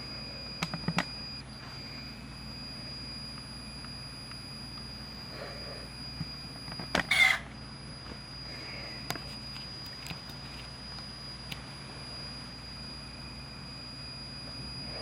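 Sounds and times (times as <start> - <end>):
cassette deck high-pitched squeal: 0.0 - 15.0.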